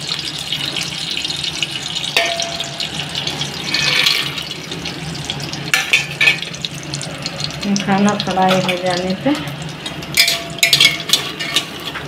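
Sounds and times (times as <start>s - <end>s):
ghee sizzling in a pot: 0.0s - 12.0s.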